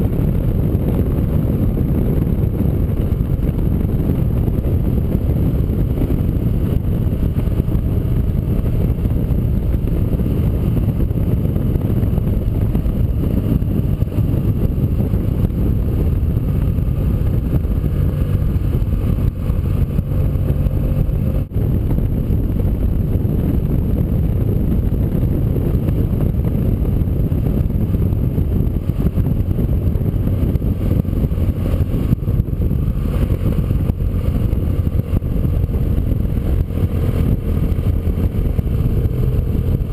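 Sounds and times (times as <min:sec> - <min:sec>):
motorcycle engine drone: 0:00.0 - 0:39.9
road noise: 0:00.0 - 0:39.9
wind noise: 0:00.0 - 0:39.9.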